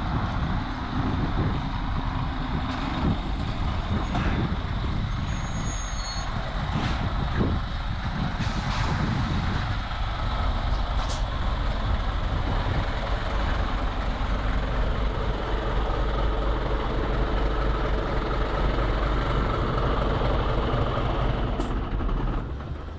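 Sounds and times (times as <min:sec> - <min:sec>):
diesel truck engine idling: 0:00.0 - 0:08.4, 0:09.0 - 0:22.9.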